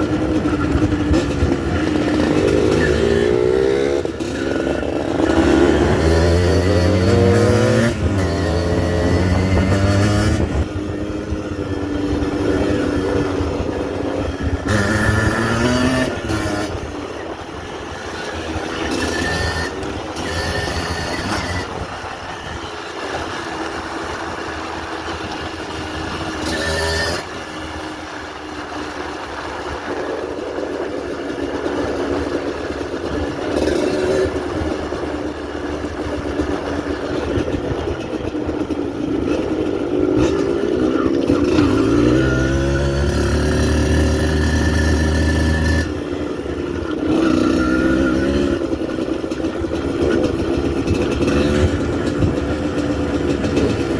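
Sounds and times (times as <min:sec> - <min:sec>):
two-stroke engine revving: 0:00.0 - 0:53.9.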